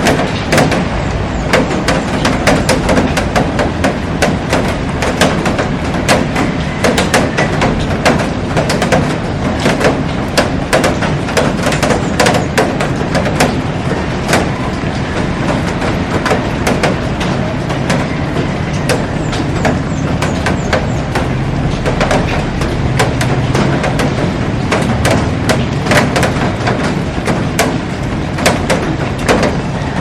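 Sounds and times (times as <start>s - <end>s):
raindrops ticking on glass: 0.0s - 30.0s.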